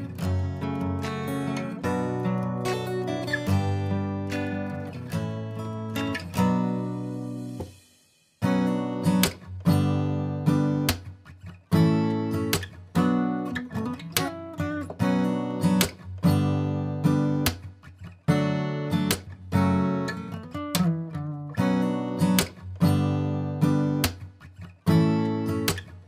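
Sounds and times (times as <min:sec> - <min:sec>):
guitar chords strummed: 0:00.0 - 0:26.0.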